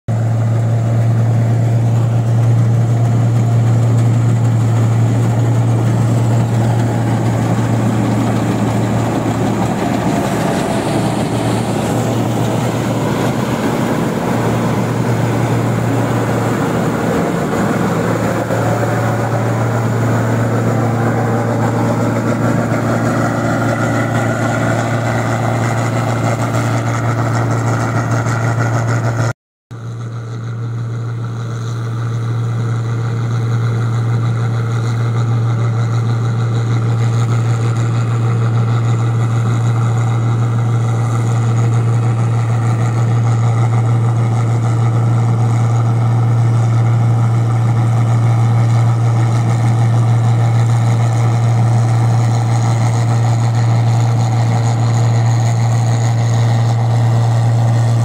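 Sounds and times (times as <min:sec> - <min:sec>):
combine harvester engine hum: 0:00.1 - 0:58.0.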